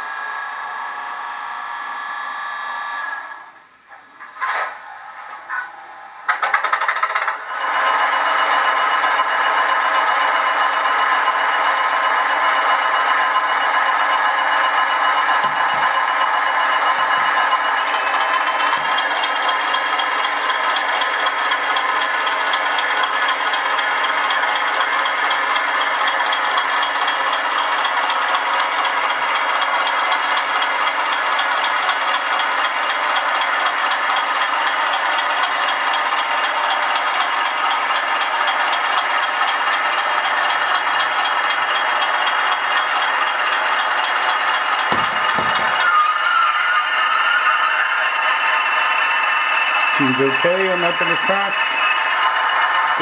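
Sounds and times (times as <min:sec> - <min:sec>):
model train rattling on track: 0:04.2 - 0:53.0.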